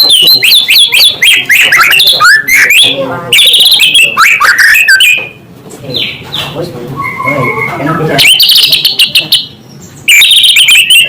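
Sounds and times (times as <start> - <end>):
bird singing whistles and trills: 0.0 - 5.4, 7.0 - 11.0.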